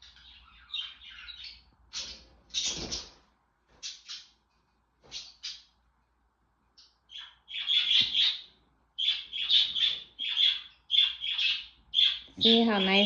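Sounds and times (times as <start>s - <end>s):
pet birds chirping: 0.0s - 6.0s, 6.7s - 13.0s.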